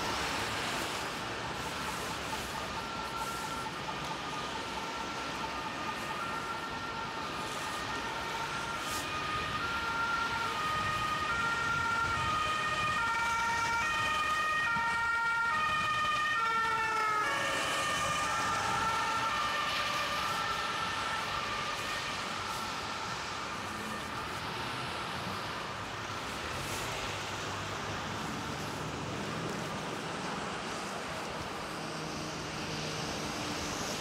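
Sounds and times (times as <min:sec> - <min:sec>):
two-tone emergency siren: 0:00.0 - 0:34.0.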